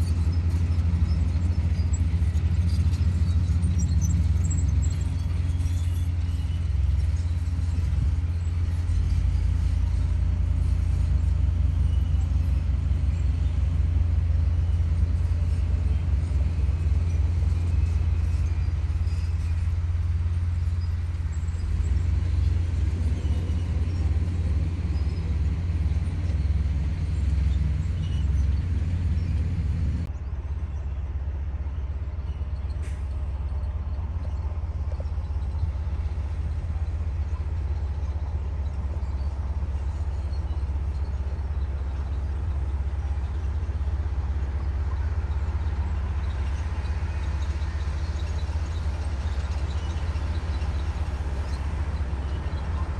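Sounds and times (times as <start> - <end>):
bulldozer diesel engine rumbling: 0.0 - 52.9.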